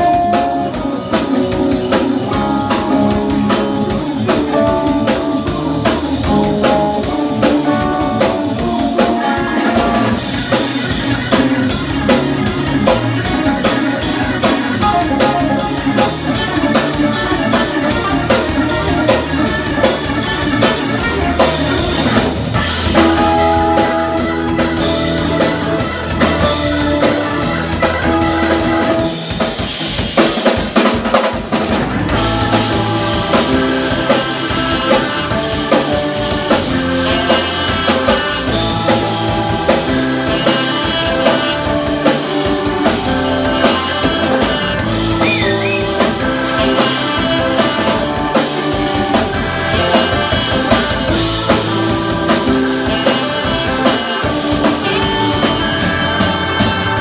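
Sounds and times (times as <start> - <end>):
saxophone: 0.0 - 29.4, 32.0 - 57.0
drum kit: 0.0 - 57.0
electric guitar: 0.0 - 57.0
organ: 0.0 - 57.0.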